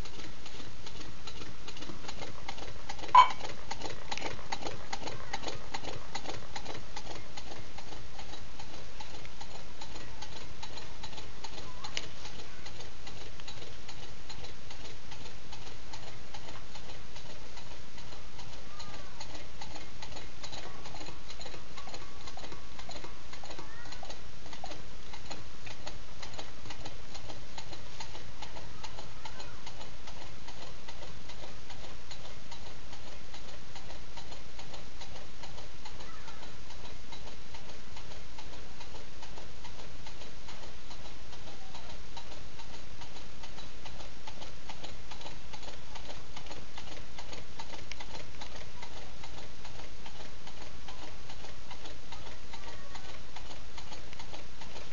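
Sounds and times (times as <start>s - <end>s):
small engine rapid ticking: 0.0s - 54.9s.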